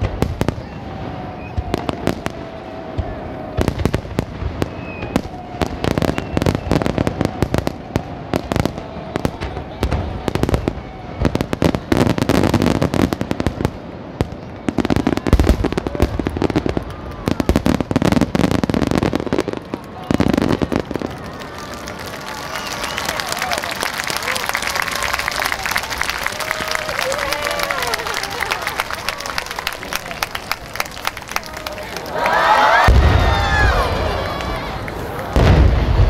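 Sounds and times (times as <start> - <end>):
fireworks bangs and crackles: 0.0 - 31.8, 32.7 - 36.0.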